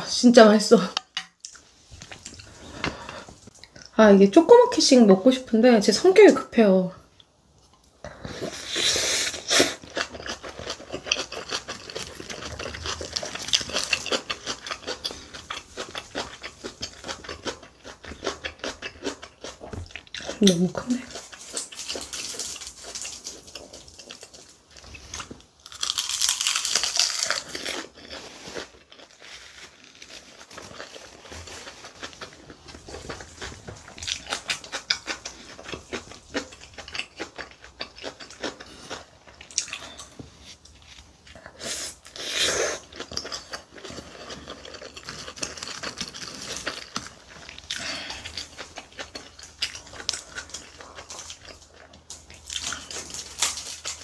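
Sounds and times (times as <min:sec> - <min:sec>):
crunchy chewing: 0:08.4 - 0:54.0.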